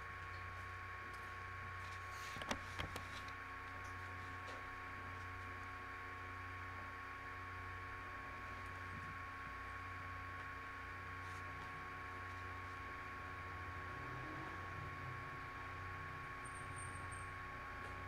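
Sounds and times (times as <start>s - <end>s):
electrical hum and hiss: 0.0s - 18.0s.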